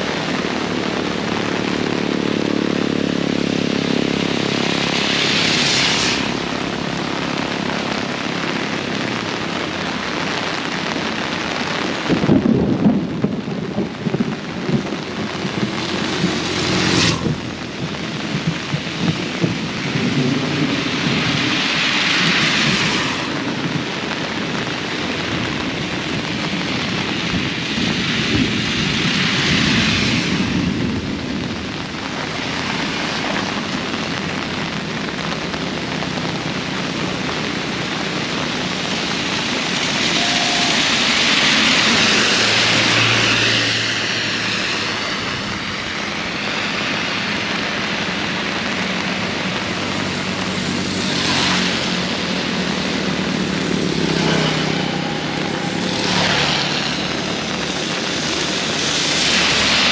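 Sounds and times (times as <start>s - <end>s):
heavy rain in strong wind: 0.0s - 59.9s.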